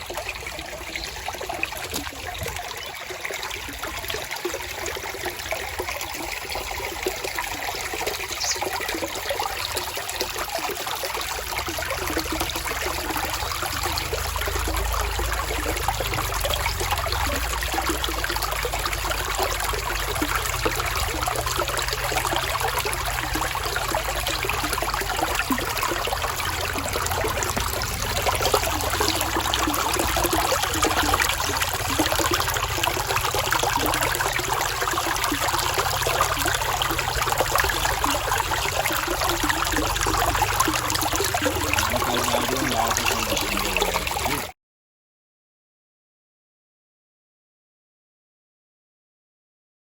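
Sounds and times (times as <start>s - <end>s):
water trickling and splashing: 0.0s - 44.6s.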